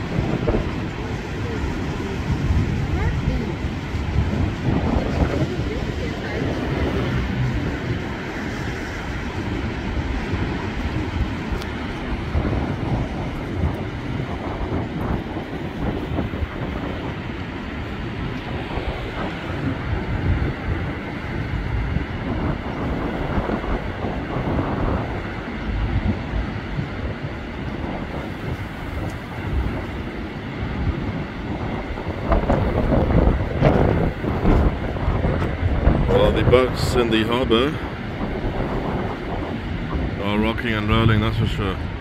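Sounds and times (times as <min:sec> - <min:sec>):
heavy surf breaking on shore: 0:00.0 - 0:42.0
wind buffeting microphone: 0:00.0 - 0:42.0.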